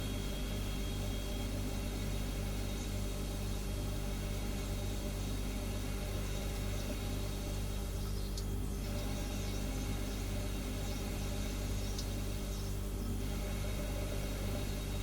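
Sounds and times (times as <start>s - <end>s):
refrigerator humming: 0.0s - 15.0s.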